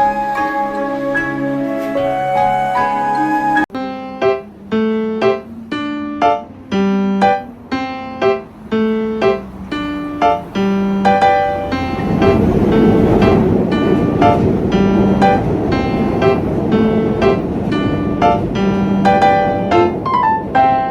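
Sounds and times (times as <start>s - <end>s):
piano playing repeating figure: 0.0s - 20.9s.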